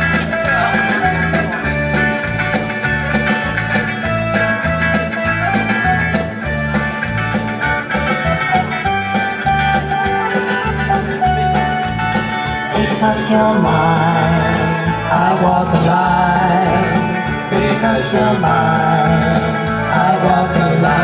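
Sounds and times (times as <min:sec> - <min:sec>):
bass line: 0:00.0 - 0:21.0
guitar: 0:00.0 - 0:21.0
live country music: 0:00.0 - 0:21.0
steady beat: 0:00.0 - 0:21.0.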